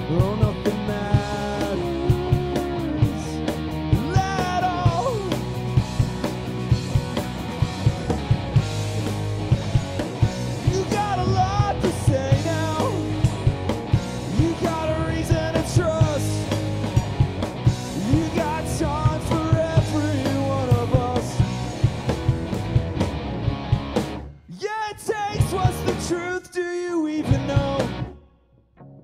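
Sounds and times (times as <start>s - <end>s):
rock band playing live: 0.0s - 28.2s.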